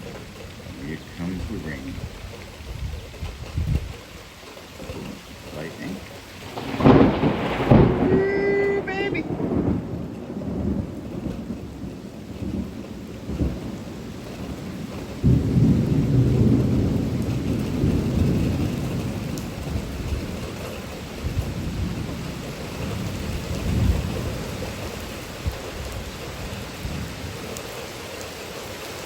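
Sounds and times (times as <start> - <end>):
thunder clap and rumble: 0.0 - 27.6
steady rain: 0.0 - 29.0.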